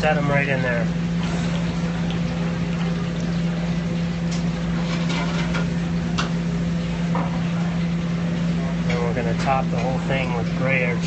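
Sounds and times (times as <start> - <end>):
kitchen equipment hum: 0.0 - 11.0.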